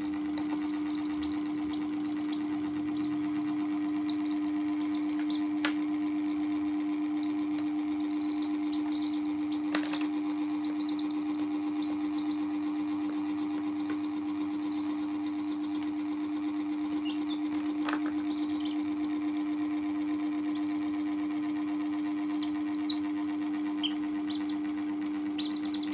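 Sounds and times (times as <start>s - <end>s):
chicks peeping: 0.0s - 25.9s
steady low hum: 0.0s - 25.9s.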